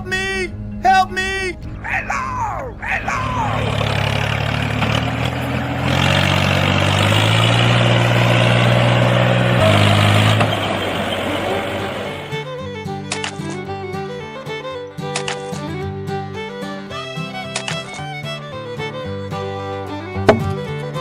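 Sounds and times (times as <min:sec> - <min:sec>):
engine deep hum: 0:00.0 - 0:14.9, 0:15.8 - 0:21.0.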